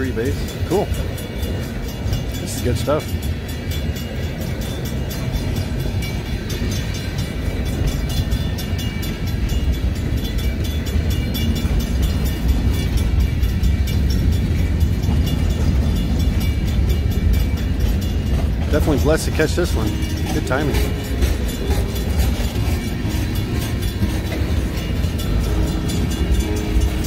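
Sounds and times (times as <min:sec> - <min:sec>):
crossing signal bell ringing: 0:00.0 - 0:27.0
freight train wheels rumbling on rail: 0:00.0 - 0:27.0.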